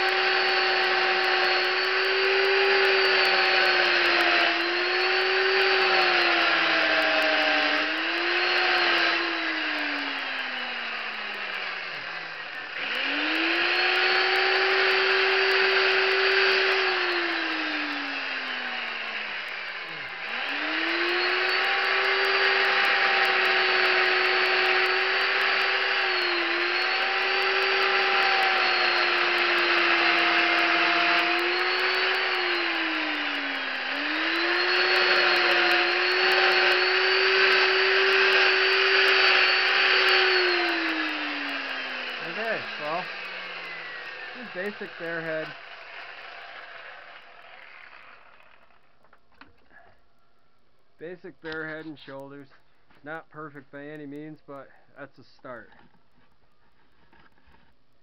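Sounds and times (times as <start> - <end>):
chainsaw carving wood: 0.0 - 49.9, 56.7 - 57.8.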